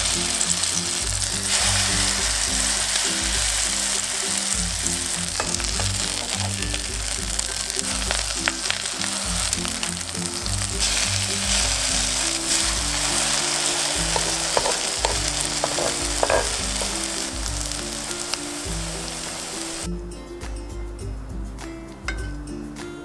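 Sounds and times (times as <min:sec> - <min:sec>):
food sizzling in oil: 0:00.0 - 0:19.9.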